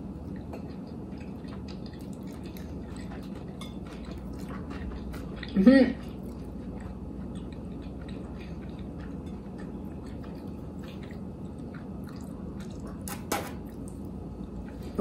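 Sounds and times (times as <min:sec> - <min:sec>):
chewing food: 0:00.0 - 0:15.0
steady low hum: 0:00.0 - 0:15.0.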